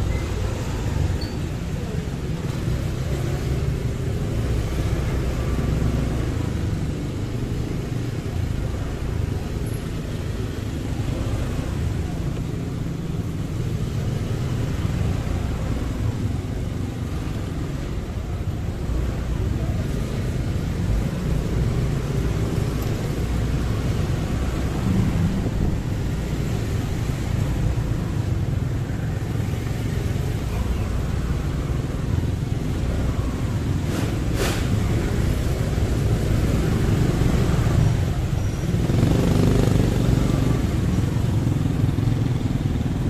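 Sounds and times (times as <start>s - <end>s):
rumble of surrounding traffic: 0.0s - 43.0s.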